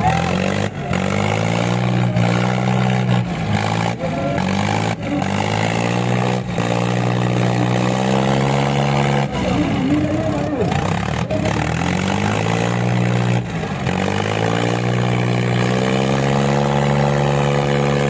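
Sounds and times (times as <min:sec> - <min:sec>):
tractor diesel engines under load: 0:00.0 - 0:18.0.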